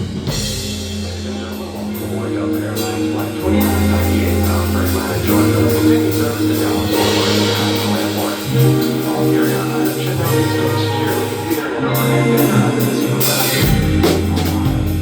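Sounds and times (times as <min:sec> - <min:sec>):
loud pop music: 0:00.0 - 0:15.0.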